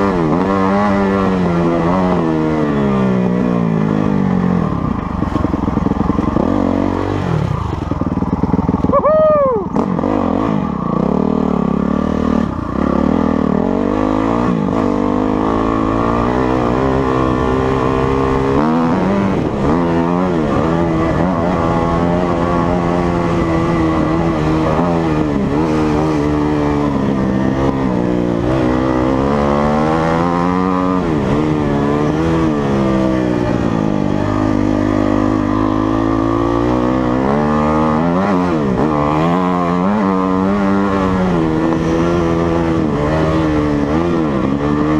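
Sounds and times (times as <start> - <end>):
dirt bike engine running hard: 0.0 - 44.9.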